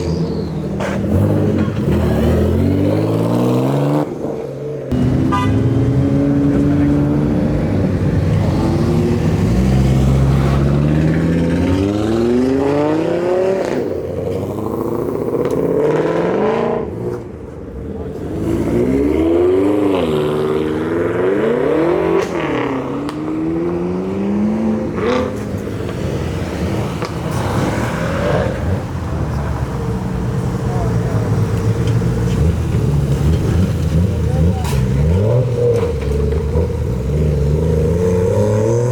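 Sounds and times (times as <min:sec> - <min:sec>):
car engines revving and accelerating: 0:00.0 - 0:38.9.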